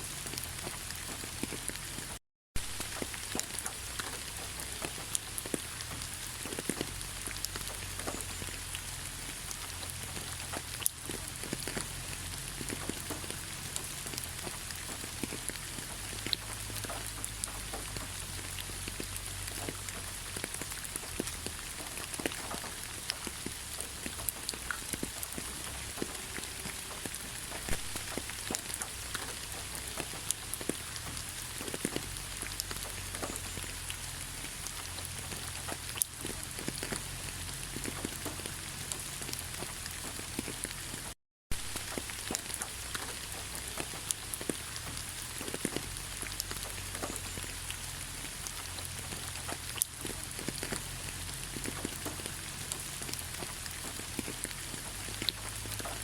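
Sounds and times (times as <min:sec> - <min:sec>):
rain hissing in forest: 0:00.0 - 0:56.0
raindrops striking close: 0:00.0 - 0:56.0.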